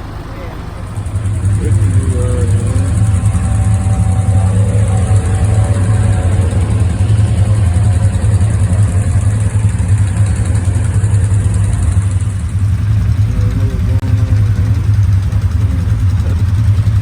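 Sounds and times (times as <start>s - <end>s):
atv engine humming: 0.0s - 17.0s.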